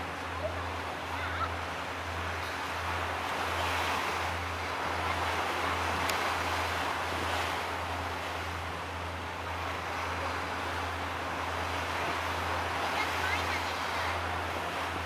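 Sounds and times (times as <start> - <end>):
waves rushing: 0.0 - 15.0.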